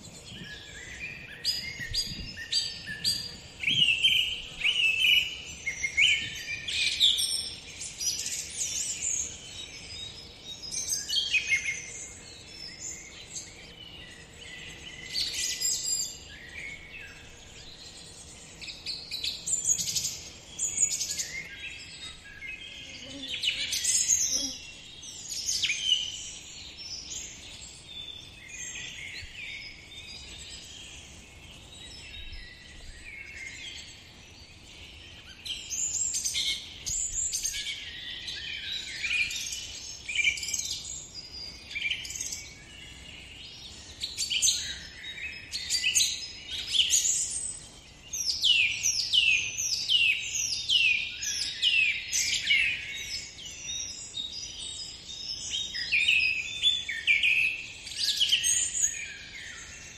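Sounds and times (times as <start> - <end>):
songbirds chirping and whistling: 0.0 - 59.9.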